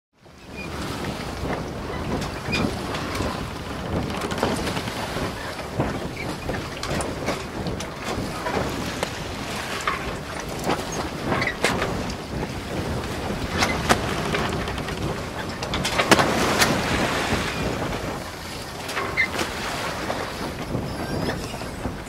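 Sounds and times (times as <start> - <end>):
water rushing against boat bow: 0.2 - 22.0
wind buffeting microphone: 0.2 - 22.0.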